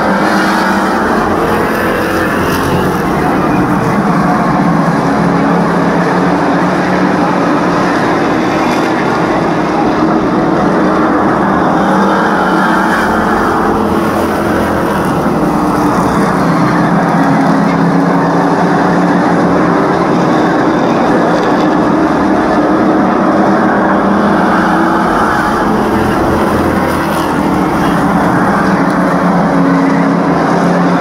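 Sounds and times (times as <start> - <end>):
race car engines running: 0.0 - 31.0.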